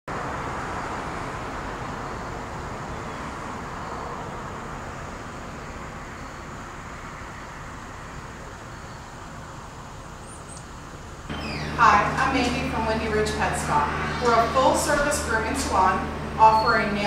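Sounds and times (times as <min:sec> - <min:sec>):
road traffic noise: 0:00.1 - 0:17.0.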